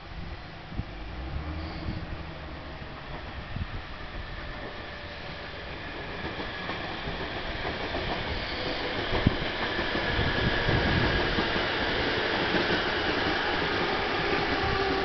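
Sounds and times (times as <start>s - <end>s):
electric train on rails: 0.0s - 15.0s.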